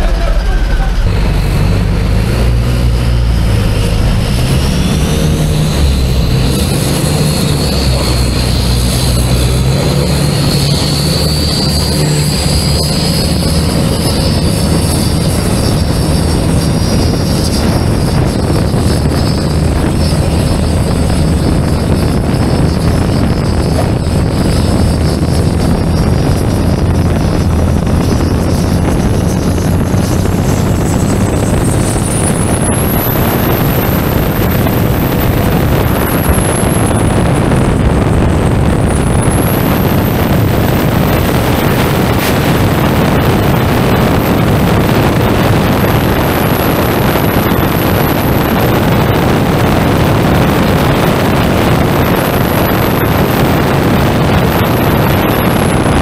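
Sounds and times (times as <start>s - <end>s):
boat diesel engine running hard: 0.0s - 56.0s
spray and wind rushing: 1.0s - 56.0s.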